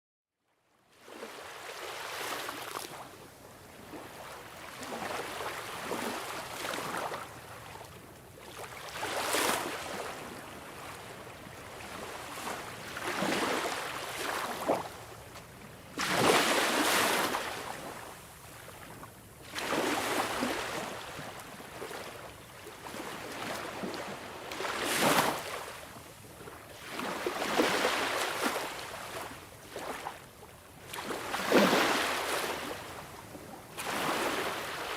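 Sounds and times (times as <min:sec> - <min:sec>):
sea waves on shore: 0:01.0 - 0:30.2, 0:30.8 - 0:34.9.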